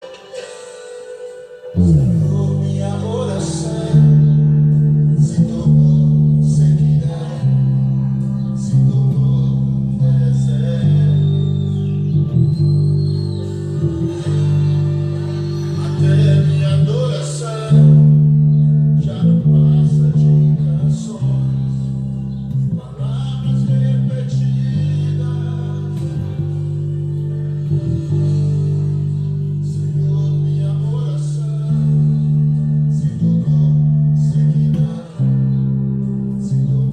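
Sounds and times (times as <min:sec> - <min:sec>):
guitar chords: 0:00.0 - 0:36.9.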